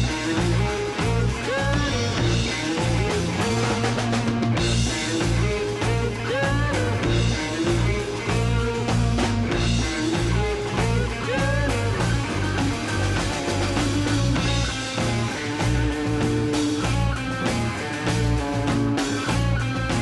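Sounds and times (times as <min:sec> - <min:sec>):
bass guitar: 0:00.0 - 0:20.0
drums: 0:00.0 - 0:20.0
electric guitar with bent notes: 0:00.0 - 0:20.0.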